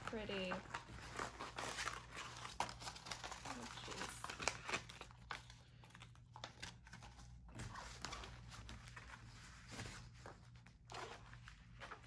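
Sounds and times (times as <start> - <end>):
paper and plastic film crinkling: 0.0 - 12.0.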